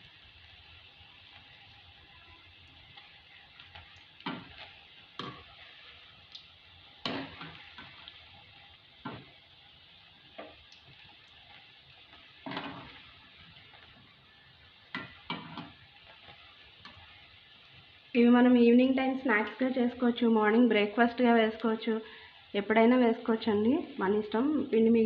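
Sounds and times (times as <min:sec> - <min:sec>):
fritters sizzling in hot oil: 0:00.0 - 0:25.0.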